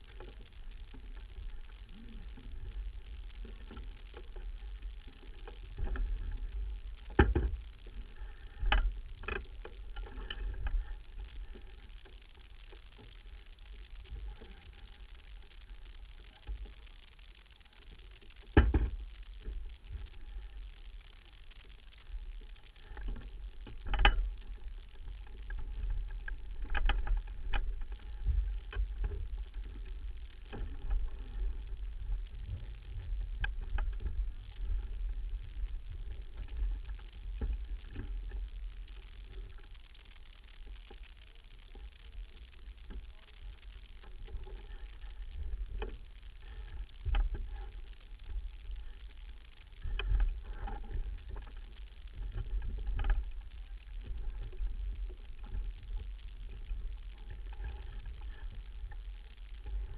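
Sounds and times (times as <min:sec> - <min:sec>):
wind rumbling on microphone: 0:00.0 - 0:16.9, 0:18.3 - 0:40.3, 0:41.7 - 0:59.9.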